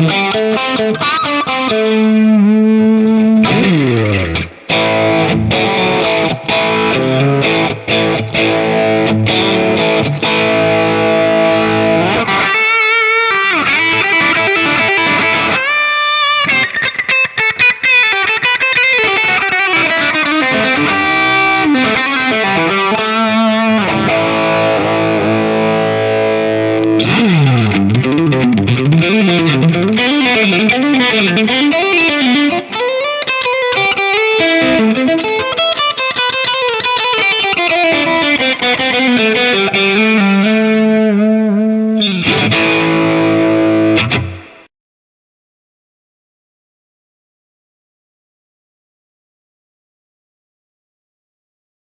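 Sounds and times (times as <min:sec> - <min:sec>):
distorted electric guitar: 0:00.0 - 0:44.7.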